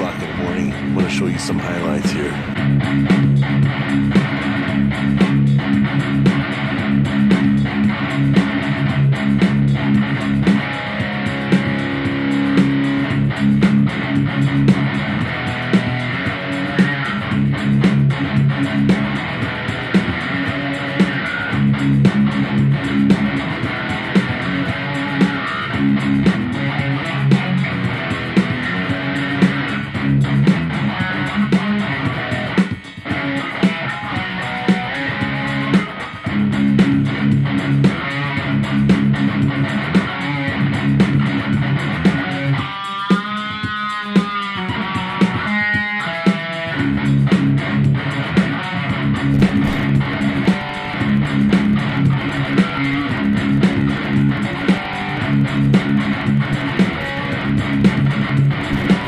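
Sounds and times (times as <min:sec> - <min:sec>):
guitar music with bass and beat: 0:00.0 - 0:59.0.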